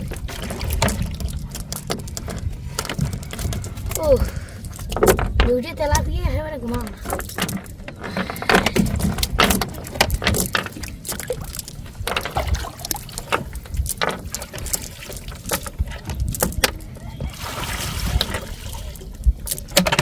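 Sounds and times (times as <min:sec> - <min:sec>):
splashing and knocking in water: 0:00.0 - 0:20.0.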